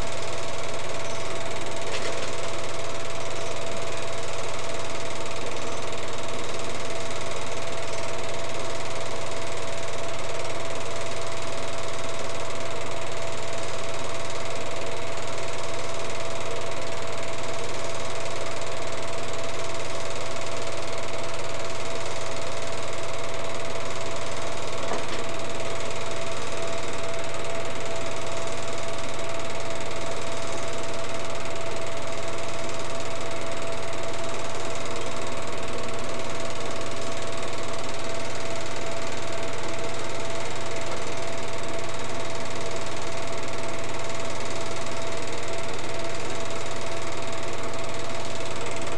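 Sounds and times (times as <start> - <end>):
film projector motor whirring: 0.0 - 48.9.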